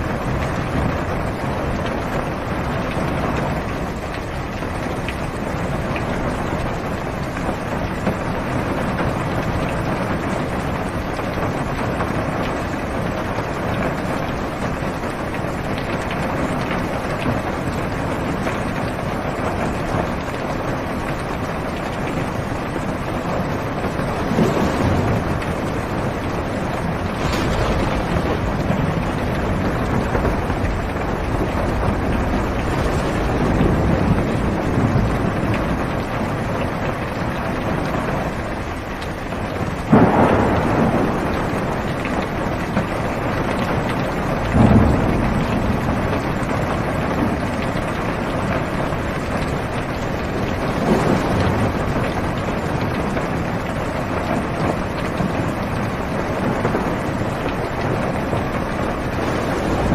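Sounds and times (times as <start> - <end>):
heavy rain on a car roof: 0.0 - 59.9.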